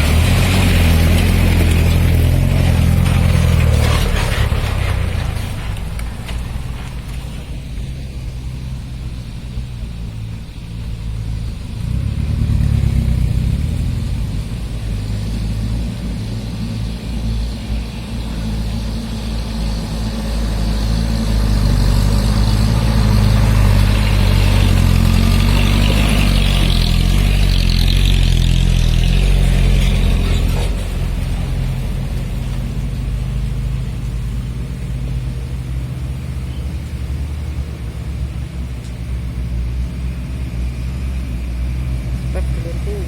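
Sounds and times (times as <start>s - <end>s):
road and wind noise: 0.0s - 43.0s
vehicle engine running: 0.0s - 43.0s.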